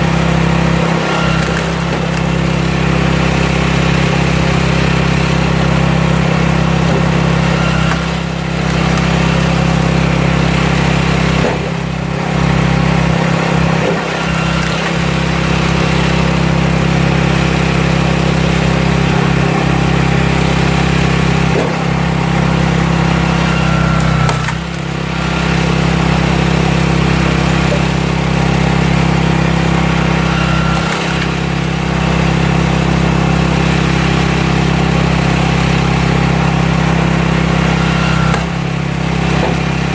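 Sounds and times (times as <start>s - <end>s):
small cultivator engine running: 0.0s - 39.9s.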